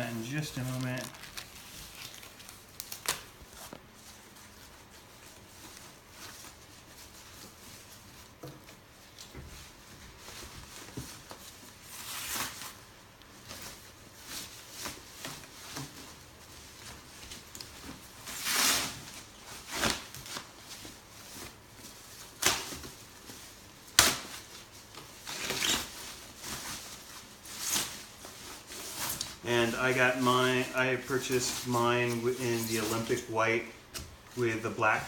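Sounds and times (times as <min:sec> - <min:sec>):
packaging rustling and crinkling: 0:00.0 - 0:35.0.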